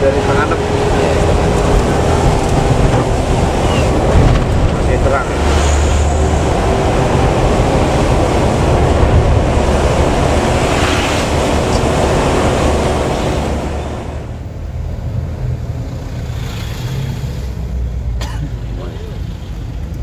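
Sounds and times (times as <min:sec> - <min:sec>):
bus engine rumble: 0:00.0 - 0:20.0
tyres on wet road: 0:00.0 - 0:20.0.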